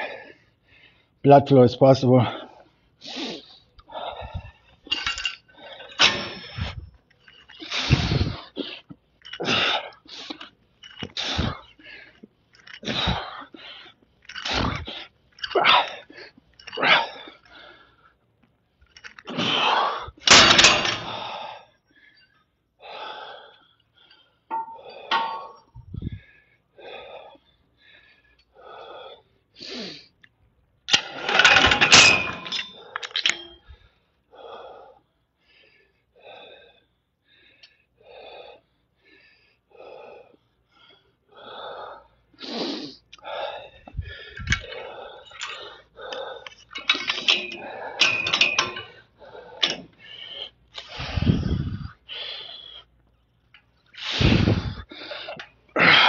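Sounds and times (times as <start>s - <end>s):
man breathing hard: 0.0s - 1.2s, 2.3s - 30.3s, 31.2s - 56.0s.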